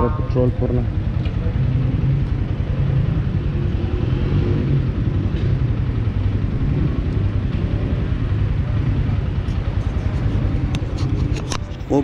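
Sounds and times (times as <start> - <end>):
motorcycle engine idling: 0.0 - 4.0, 4.8 - 12.0.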